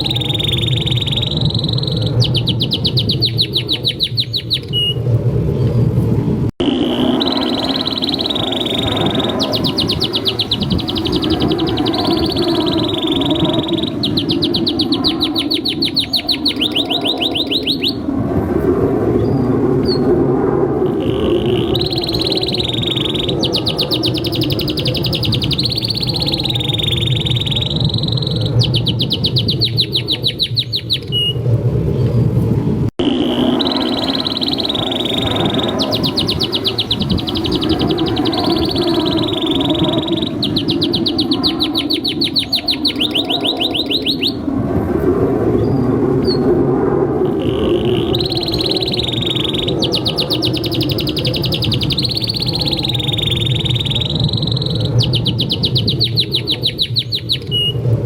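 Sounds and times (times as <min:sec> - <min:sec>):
canary singing trills: 0:00.0 - 0:05.0, 0:06.6 - 0:18.0, 0:20.9 - 0:31.4, 0:33.0 - 0:44.4, 0:47.3 - 0:57.8.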